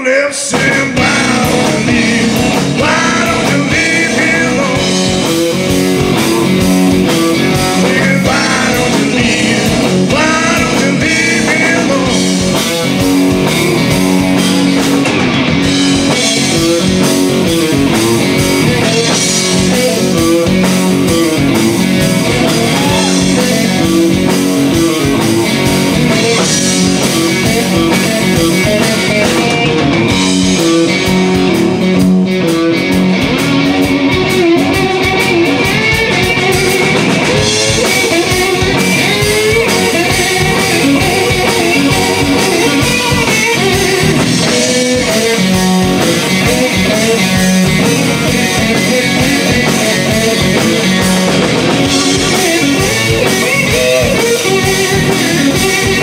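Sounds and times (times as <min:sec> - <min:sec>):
drums: 0:00.0 - 0:56.0
electric guitar: 0:00.0 - 0:56.0
electric bass: 0:00.4 - 0:56.0.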